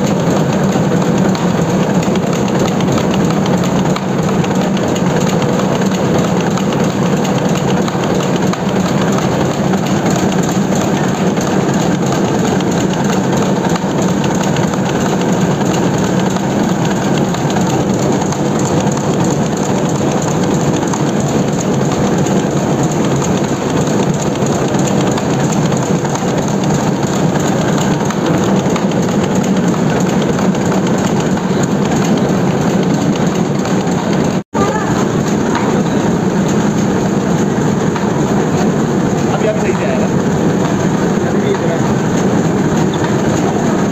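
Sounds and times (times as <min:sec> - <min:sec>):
printing press running: 0:00.0 - 0:43.9.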